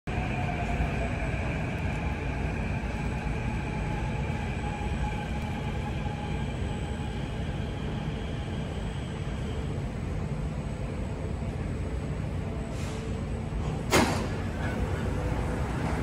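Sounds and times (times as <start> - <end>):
metro train rumble: 0.1 - 16.0.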